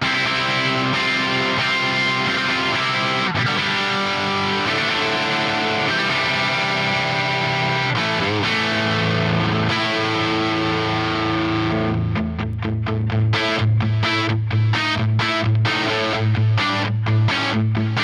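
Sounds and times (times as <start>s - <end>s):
overdriven electric guitar chords: 0.0s - 18.0s.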